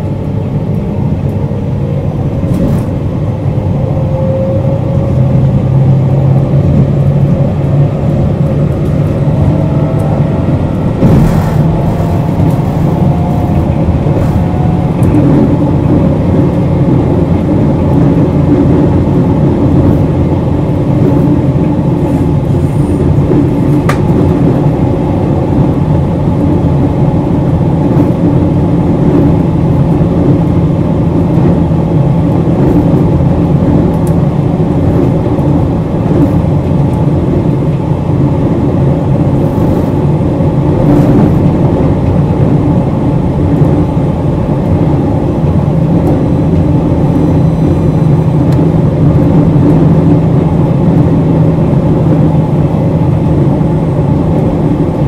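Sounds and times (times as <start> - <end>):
electric train running: 0.0 - 55.0.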